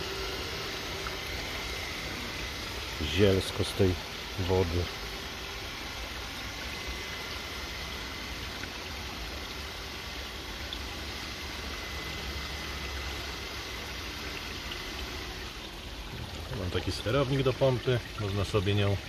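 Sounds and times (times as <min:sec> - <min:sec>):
pump low hum: 0:00.0 - 0:19.0
water running and trickling: 0:00.0 - 0:19.0.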